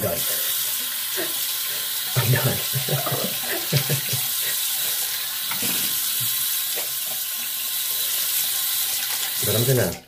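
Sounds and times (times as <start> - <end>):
sink tap running water: 0.0 - 10.0.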